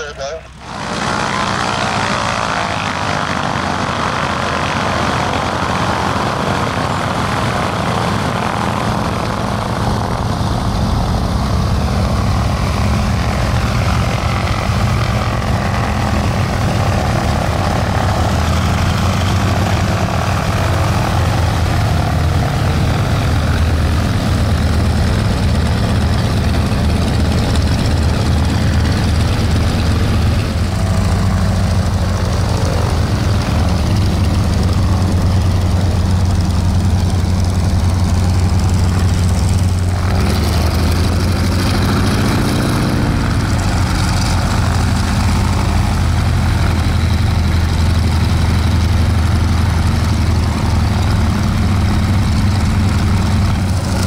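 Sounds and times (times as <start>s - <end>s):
propeller aircraft engines running: 0.0s - 54.0s.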